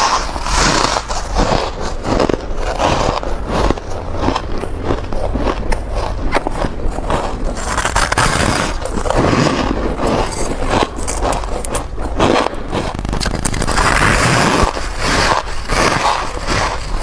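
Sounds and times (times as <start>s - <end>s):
ice being chewed: 0.0s - 17.0s.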